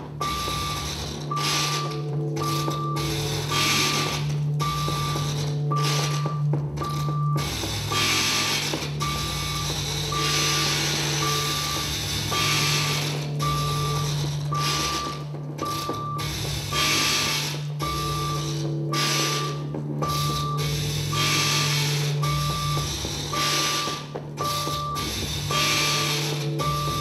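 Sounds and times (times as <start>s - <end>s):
steady low hum: 0.0s - 27.0s
short electronic beeps: 0.2s - 27.0s.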